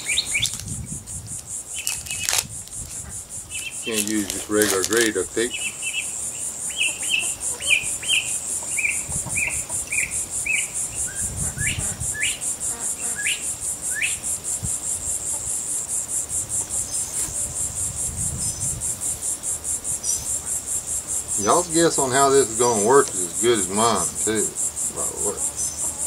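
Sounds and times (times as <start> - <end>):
bird chirping: 0.0 - 1.0, 1.6 - 2.4, 3.0 - 14.3, 16.5 - 18.8, 19.9 - 26.0
insect chirping: 0.0 - 26.0.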